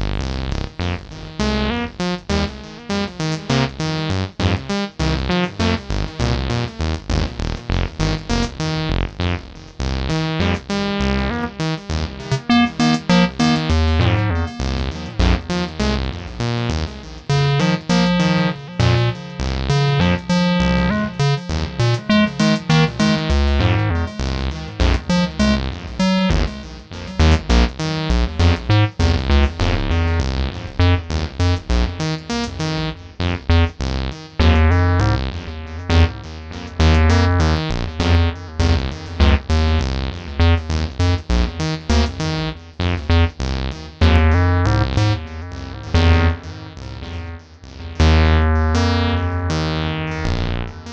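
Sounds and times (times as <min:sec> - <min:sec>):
pulsing bass line: 0:00.0 - 0:50.9.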